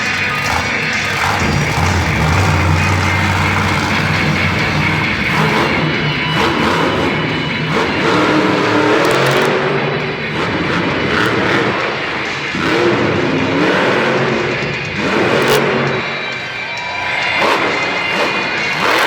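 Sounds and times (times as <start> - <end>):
monster truck engine revving: 0.0 - 16.1, 16.9 - 19.0.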